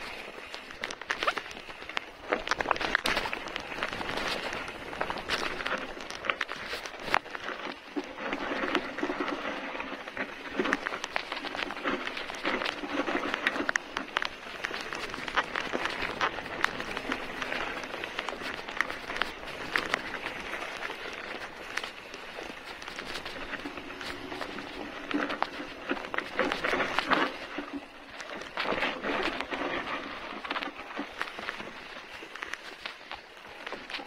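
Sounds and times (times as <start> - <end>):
bike tyres crunching over dirt: 0.0 - 34.0.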